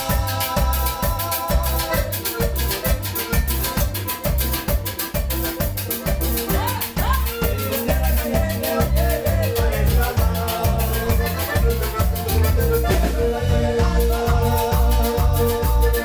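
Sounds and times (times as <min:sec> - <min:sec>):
bass line: 0:00.0 - 0:16.0
drums with cymbal ticks: 0:00.0 - 0:16.0
guitars: 0:00.0 - 0:16.0.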